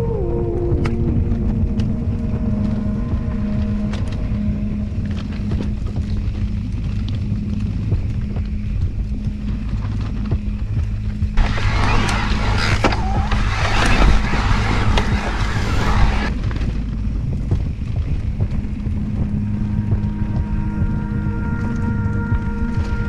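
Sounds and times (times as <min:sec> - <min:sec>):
electric bike motor whine: 0:00.0 - 0:23.0
tyre and wind rumble: 0:00.0 - 0:23.0.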